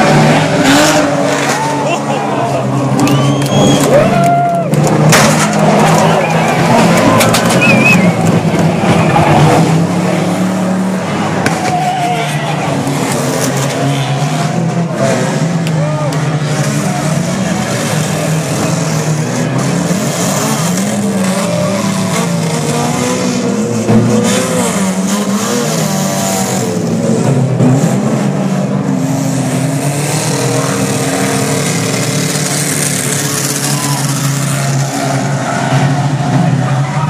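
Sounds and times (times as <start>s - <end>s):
tyres squealing and skidding: 0.0s - 10.2s, 11.1s - 26.6s, 30.0s - 37.0s
car engines revving: 0.0s - 37.0s.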